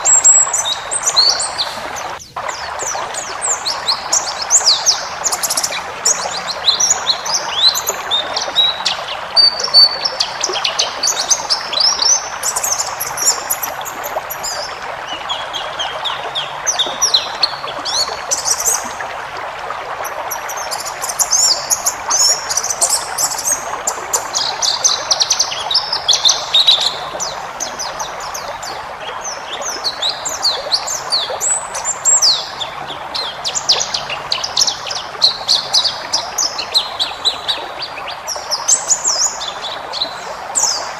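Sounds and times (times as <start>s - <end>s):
bird twittering song: 0.0s - 19.1s, 20.0s - 40.9s.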